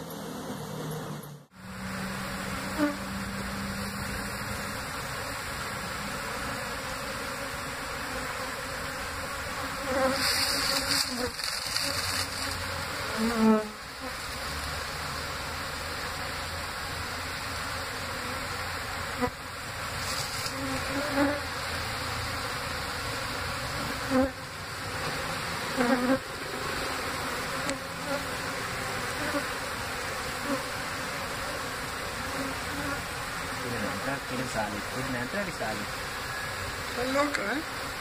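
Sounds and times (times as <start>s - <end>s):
bee swarm humming: 0.0s - 38.0s
louder bee buzz: 0.0s - 38.0s.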